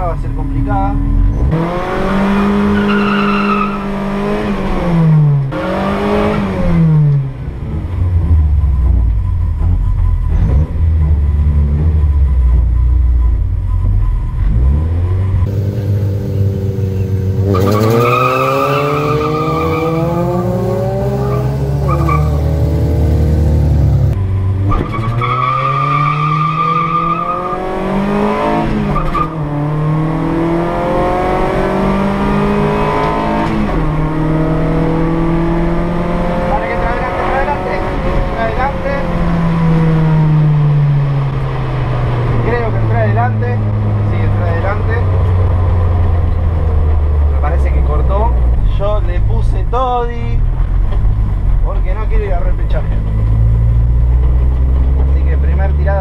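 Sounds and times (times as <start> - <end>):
car engine accelerating through gears: 0.5 - 56.0.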